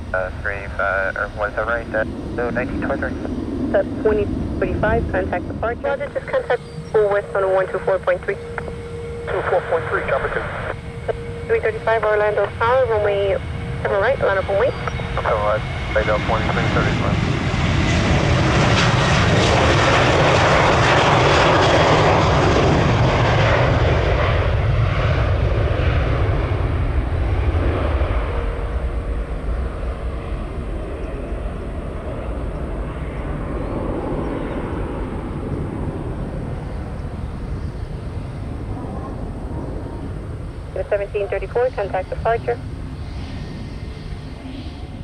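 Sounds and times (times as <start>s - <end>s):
jet airliner passing: 0.0s - 45.0s.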